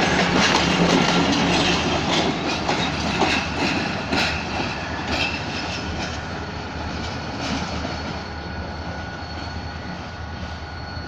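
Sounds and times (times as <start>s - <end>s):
train wheels clattering over rails: 0.0s - 11.0s.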